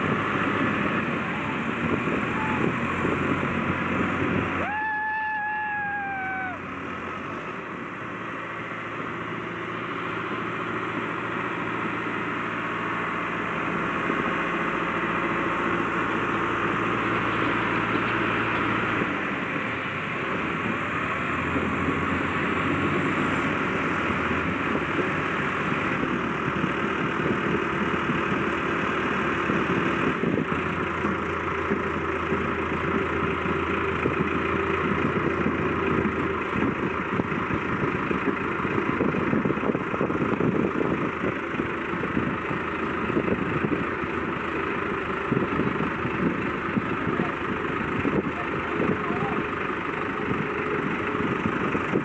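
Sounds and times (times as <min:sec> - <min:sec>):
tractor diesel engine idling: 0:00.0 - 0:04.7, 0:05.6 - 0:52.0.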